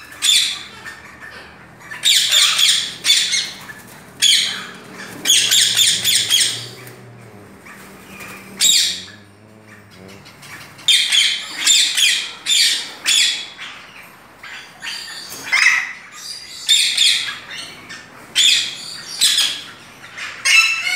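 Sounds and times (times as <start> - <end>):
parakeets squawking: 0.0 - 20.9.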